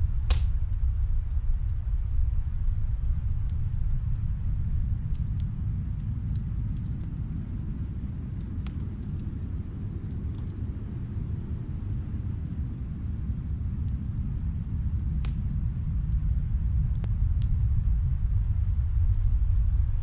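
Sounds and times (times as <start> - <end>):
fire popping: 0.0 - 20.0
low rumble: 0.0 - 20.0
wood fire crackling: 0.0 - 20.0.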